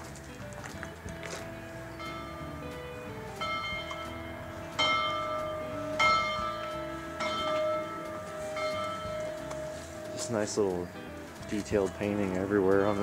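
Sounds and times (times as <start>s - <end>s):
locomotive bell ringing: 1.8s - 13.0s.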